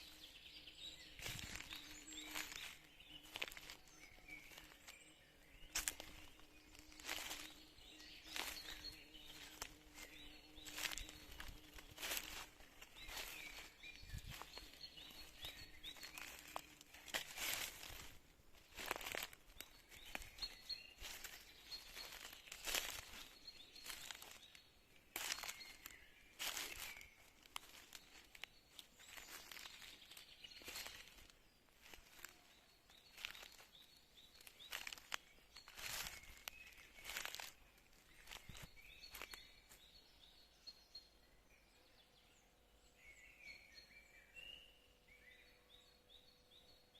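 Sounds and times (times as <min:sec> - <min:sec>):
rustling in dry leaves: 0:00.0 - 0:39.8
small birds chirping: 0:00.0 - 0:46.9.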